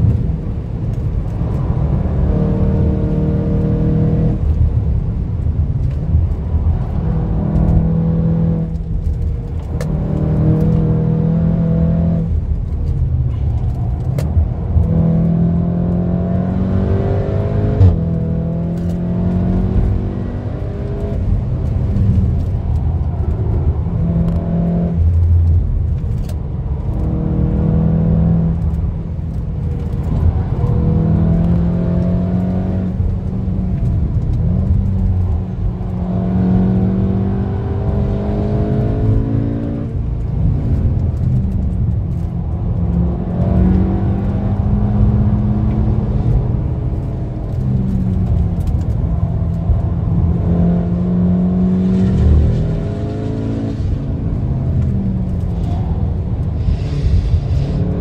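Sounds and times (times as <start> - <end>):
turbocharged car engine accelerating: 0.0 - 58.0.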